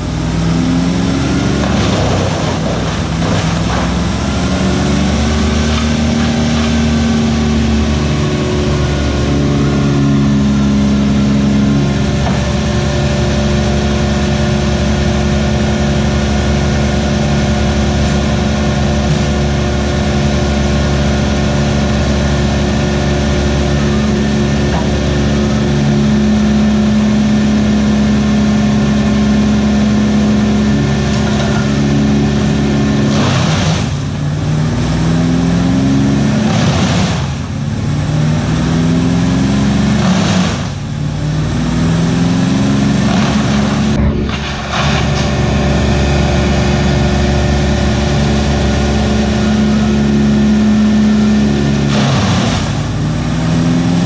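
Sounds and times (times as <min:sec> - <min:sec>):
engine pulling down under load: 0:00.0 - 0:54.0
large machine engine running: 0:00.0 - 0:54.0.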